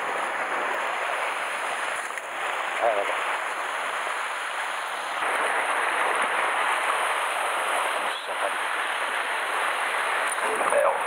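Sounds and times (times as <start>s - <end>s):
sea waves washing over rocks: 0.0s - 11.0s.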